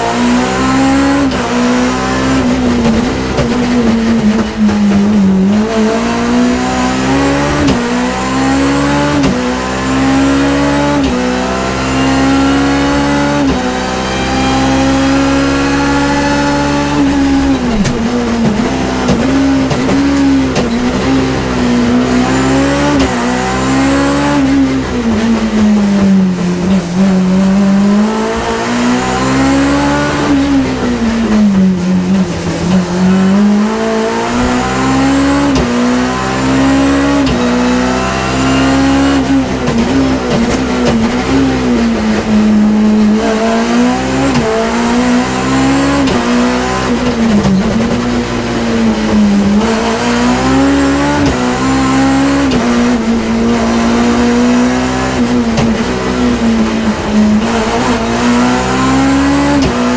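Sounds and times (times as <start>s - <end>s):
car engine revving under acceleration: 0.0s - 59.9s.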